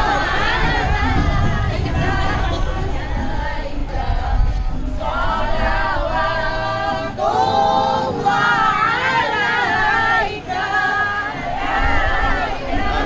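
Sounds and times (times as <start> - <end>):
crowd murmur: 0.0 - 13.0
men and women singing together: 0.0 - 13.0.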